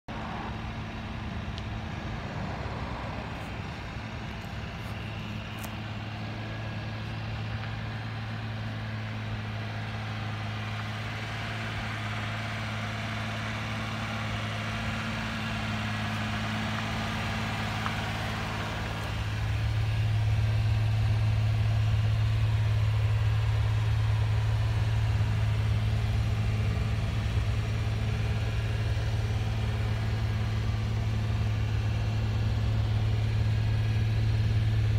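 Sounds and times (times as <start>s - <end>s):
small truck engine idling: 0.1s - 34.9s.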